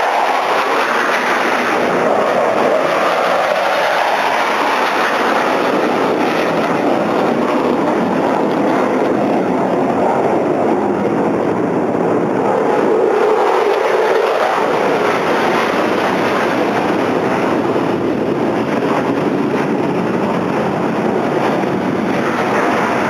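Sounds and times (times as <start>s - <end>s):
jet roar: 0.0s - 23.0s.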